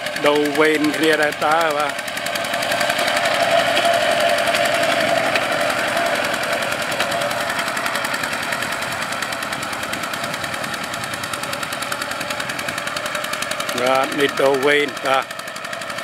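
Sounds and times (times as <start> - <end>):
walking tractor engine chugging: 0.0 - 16.0.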